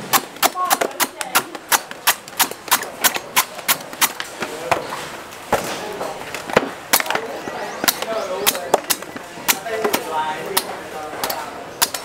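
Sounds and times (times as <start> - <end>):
knife chopping coconuts: 0.0 - 4.9, 6.4 - 12.0.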